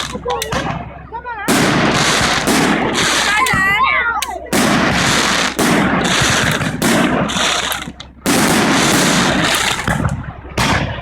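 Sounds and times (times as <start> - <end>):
firework bangs: 0.0 - 11.0.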